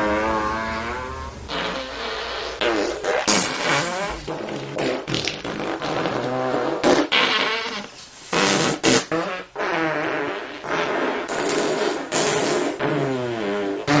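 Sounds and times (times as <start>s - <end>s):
fart sound effects: 0.0s - 14.0s.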